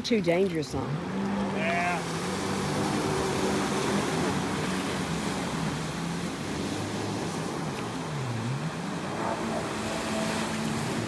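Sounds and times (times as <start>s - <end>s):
jet ski engines: 0.0s - 11.0s.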